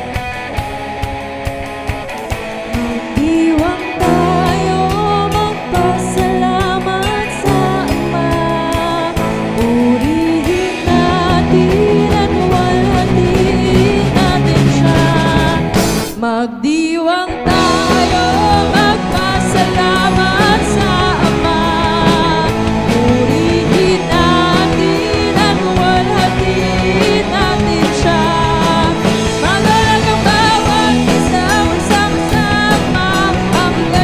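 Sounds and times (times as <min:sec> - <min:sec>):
rock band playing: 0:00.0 - 0:16.4, 0:17.3 - 0:34.0
woman singing: 0:02.7 - 0:34.0.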